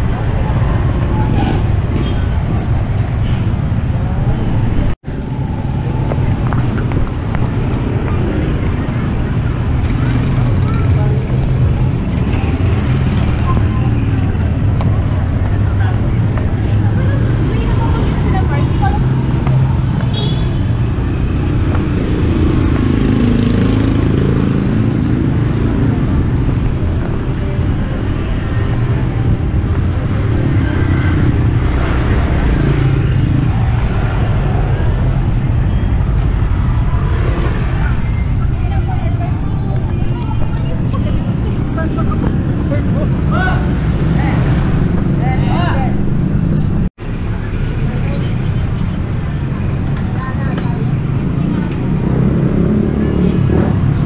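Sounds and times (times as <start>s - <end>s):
crowd noise: 0.0s - 54.0s
road noise: 0.0s - 54.0s
traffic rumble: 0.0s - 54.0s
vehicle engine: 0.0s - 54.0s.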